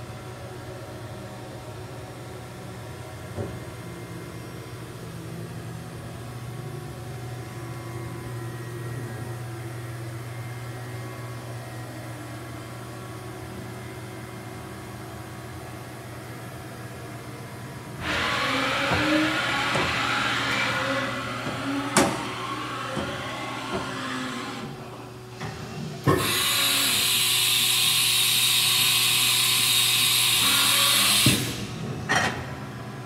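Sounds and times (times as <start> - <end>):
machine running with low hum: 0.0 - 33.0.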